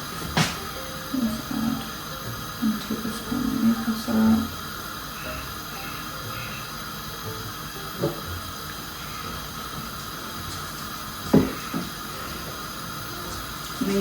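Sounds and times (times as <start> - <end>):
milk hissing in a saucepan: 0.0 - 14.0.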